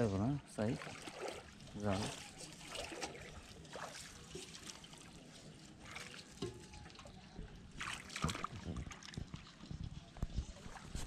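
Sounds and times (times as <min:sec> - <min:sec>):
river water trickling: 0:00.0 - 0:11.0
feet wading through water: 0:00.5 - 0:09.7, 0:10.4 - 0:11.0.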